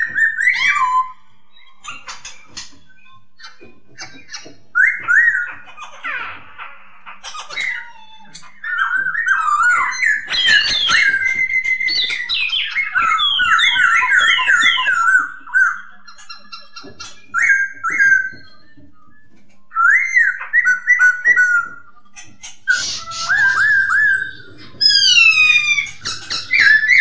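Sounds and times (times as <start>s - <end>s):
bird whistling song: 0.0s - 27.0s.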